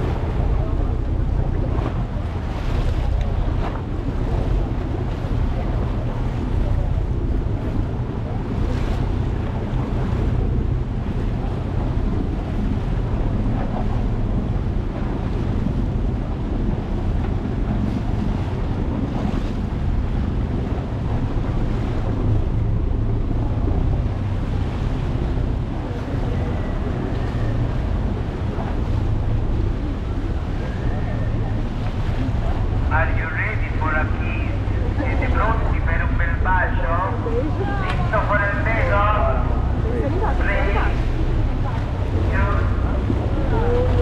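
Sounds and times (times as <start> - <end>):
motorboat engine hum: 0.0 - 44.0
water rushing past hull: 0.0 - 44.0
wind buffeting microphone: 0.0 - 44.0.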